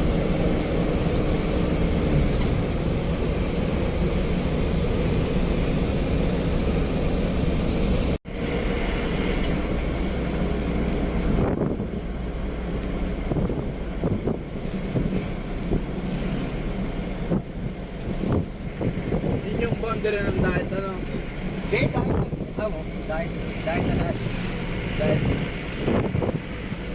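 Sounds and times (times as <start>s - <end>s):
vehicle road and engine noise: 0.0s - 26.9s.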